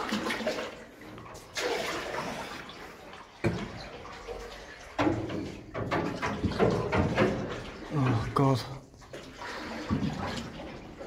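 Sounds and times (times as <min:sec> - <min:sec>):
canoe paddles splashing in water: 0:00.0 - 0:11.0.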